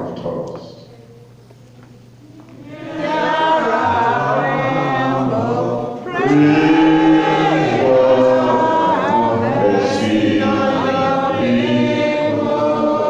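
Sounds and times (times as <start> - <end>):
congregation singing: 2.2 - 13.0.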